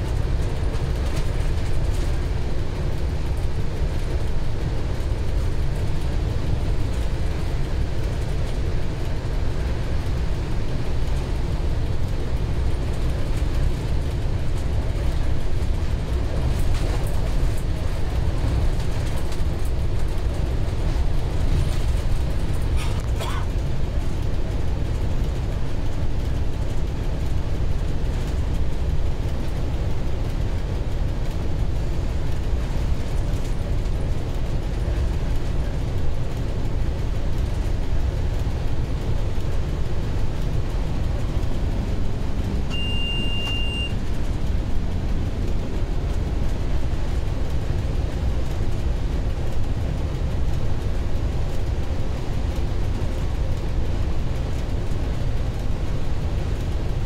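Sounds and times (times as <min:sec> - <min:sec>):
diesel locomotive engine running: 0:00.0 - 0:57.0
train wheels on rails: 0:00.0 - 0:57.0.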